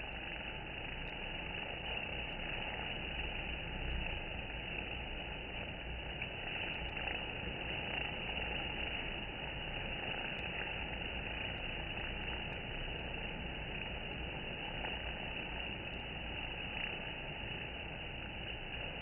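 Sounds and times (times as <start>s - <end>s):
faint ticks: 0.0s - 19.0s.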